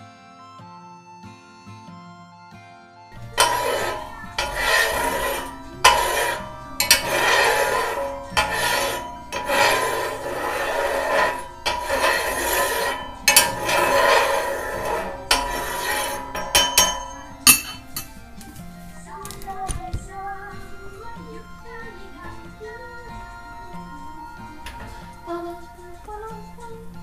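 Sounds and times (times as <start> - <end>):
rasping scraping strokes: 3.2 - 25.8.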